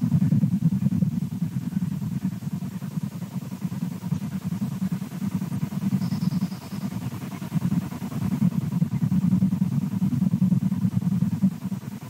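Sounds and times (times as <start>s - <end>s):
fluttering low hum: 0.0s - 12.0s.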